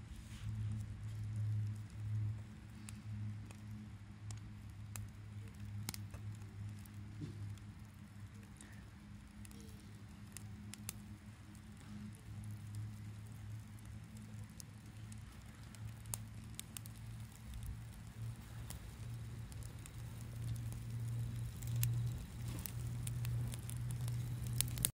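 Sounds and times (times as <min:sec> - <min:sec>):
bonfire crackling and popping: 0:00.0 - 0:25.0
low steady hum: 0:00.0 - 0:25.0.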